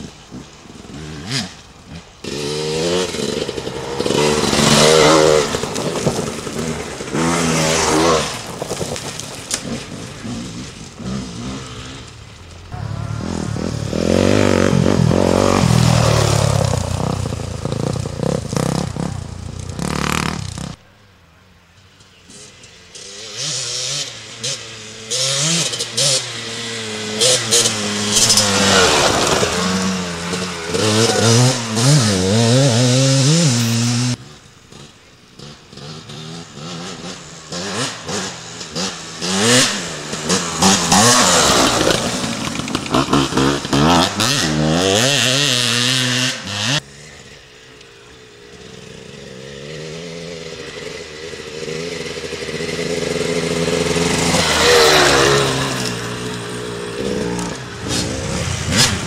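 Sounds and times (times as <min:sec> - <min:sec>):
dirt bike passing by: 0:00.0 - 0:20.8, 0:21.9 - 0:59.0
dirt bike engines revving: 0:00.0 - 0:20.9, 0:21.8 - 0:59.0.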